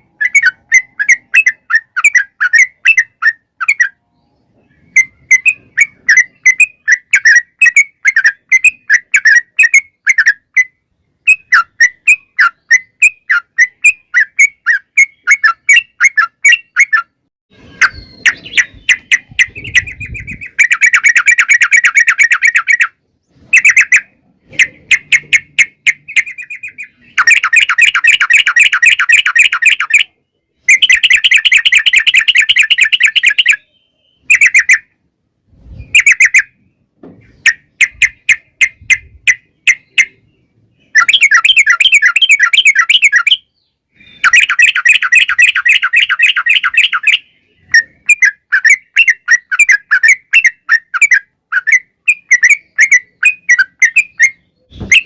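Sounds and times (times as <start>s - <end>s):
bird chirps and rolling trills: 0.0s - 55.0s.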